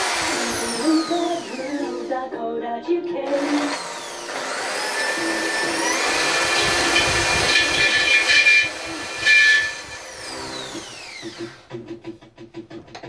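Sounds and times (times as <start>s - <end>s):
electric drill boring into metal: 0.0s - 2.2s, 3.2s - 11.7s.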